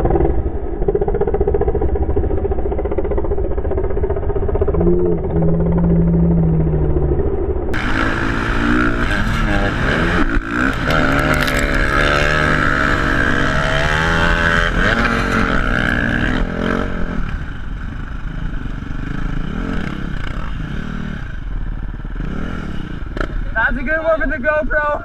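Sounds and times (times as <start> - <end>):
dirt bike engine revving: 0.0 - 24.4.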